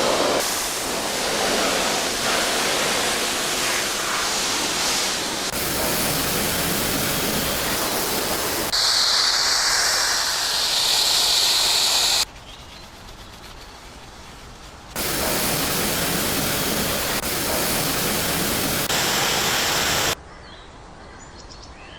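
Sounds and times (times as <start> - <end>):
water spray hissing: 0.0 - 12.3, 13.0 - 20.2.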